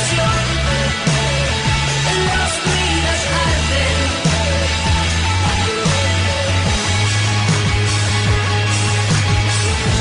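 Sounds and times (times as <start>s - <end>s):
bass guitar: 0.0s - 10.0s
drums: 0.0s - 10.0s
electric guitar: 0.0s - 10.0s.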